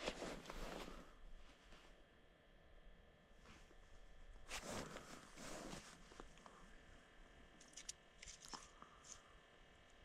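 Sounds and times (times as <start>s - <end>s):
faint background hum: 0.0s - 10.0s.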